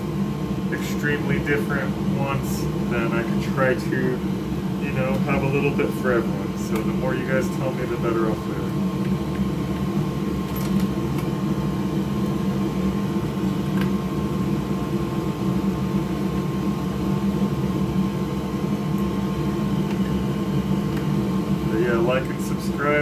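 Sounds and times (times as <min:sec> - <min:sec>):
fan whirring: 0:00.0 - 0:23.0.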